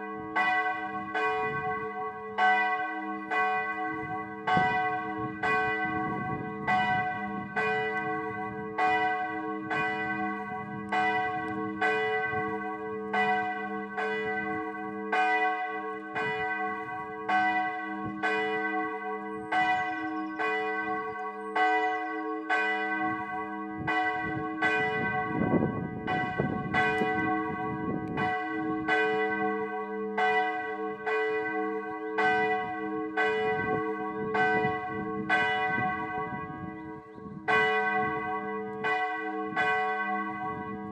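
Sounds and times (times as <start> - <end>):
church bell ringing: 0.0 - 40.9.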